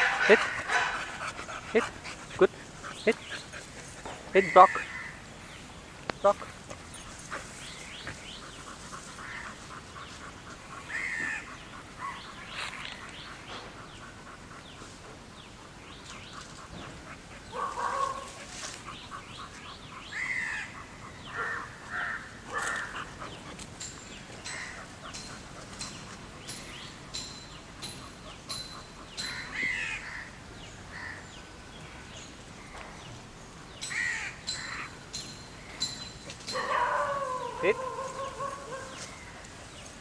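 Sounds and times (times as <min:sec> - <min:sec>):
birds calling: 0:00.0 - 0:40.0.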